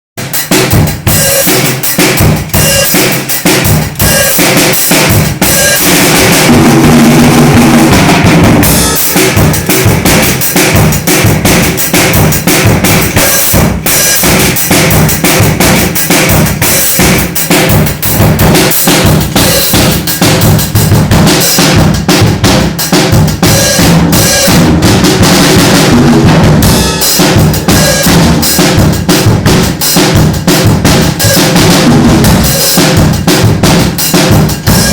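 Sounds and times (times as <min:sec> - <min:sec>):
drum kit groove: 0:00.2 - 0:34.9.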